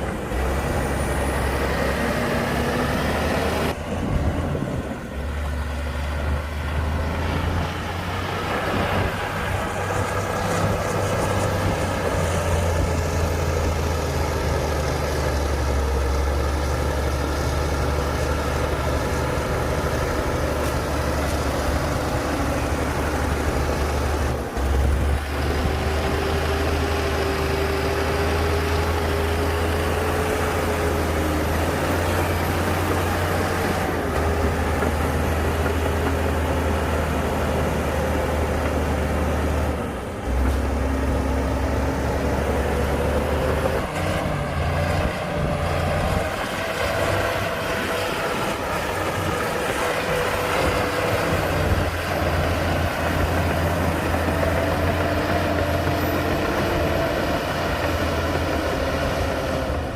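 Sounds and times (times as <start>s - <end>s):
heavy diesel machinery drone: 0.0s - 59.9s.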